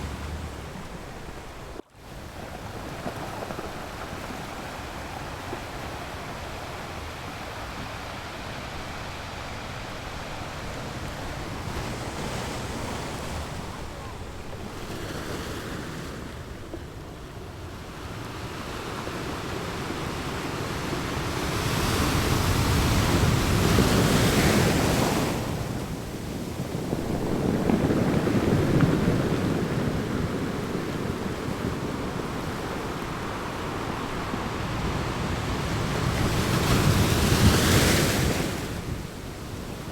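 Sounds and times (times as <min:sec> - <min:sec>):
waves washing on beach: 0:00.0 - 0:39.9.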